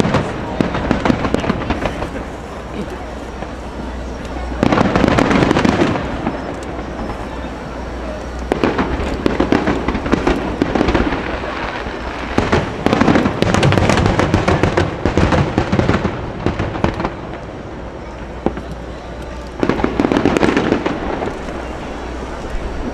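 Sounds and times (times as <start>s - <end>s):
fireworks bursting: 0.0s - 22.9s.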